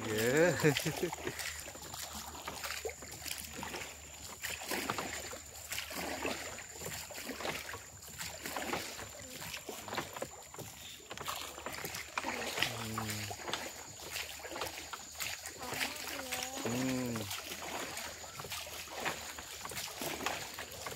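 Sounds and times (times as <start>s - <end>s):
water splashing around a rowboat: 0.0s - 20.9s.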